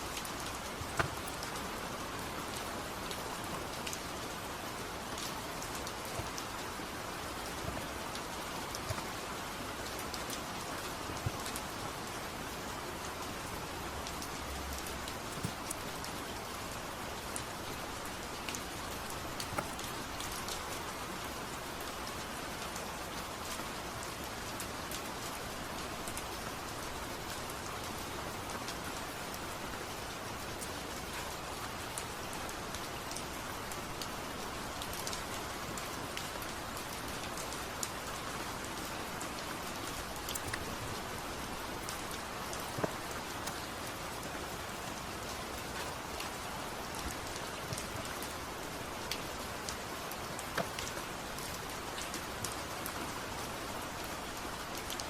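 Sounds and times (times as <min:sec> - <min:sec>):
raindrops ticking: 0:00.0 - 0:55.0
steady rain hissing: 0:00.0 - 0:55.0.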